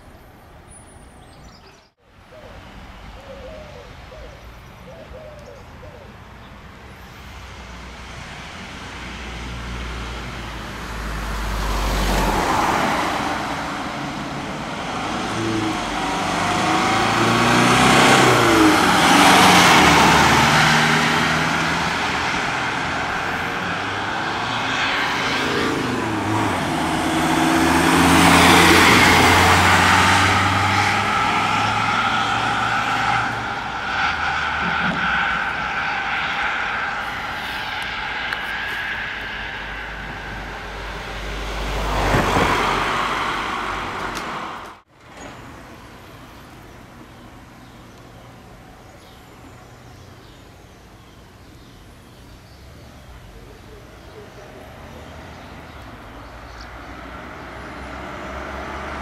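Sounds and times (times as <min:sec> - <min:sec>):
vehicles driving past: 0:00.0 - 0:59.0.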